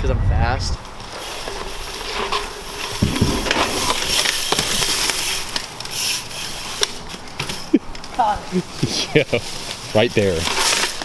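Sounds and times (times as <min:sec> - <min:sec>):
rustling crackling noise: 0:00.4 - 0:11.0.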